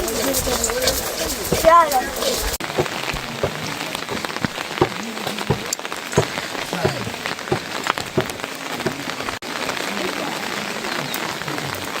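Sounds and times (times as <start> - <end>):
heavy rain falling: 0.0 - 12.0
raindrops ticking close by: 0.0 - 12.0.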